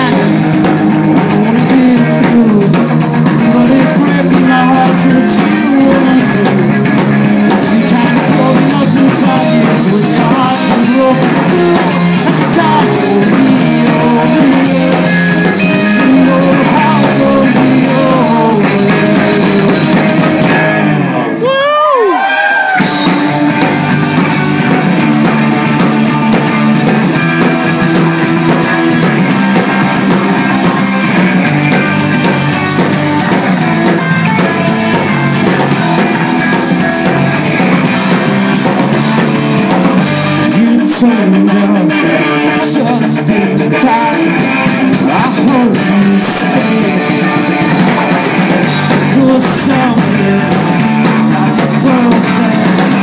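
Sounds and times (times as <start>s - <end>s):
bass guitar: 0.0s - 53.0s
drum kit: 0.0s - 53.0s
electric guitars: 0.0s - 53.0s.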